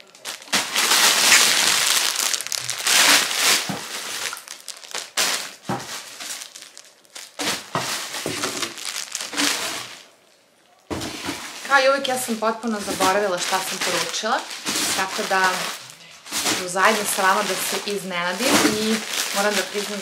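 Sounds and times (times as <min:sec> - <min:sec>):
plastic bags crinkling: 0:00.0 - 0:10.2, 0:11.0 - 0:20.0.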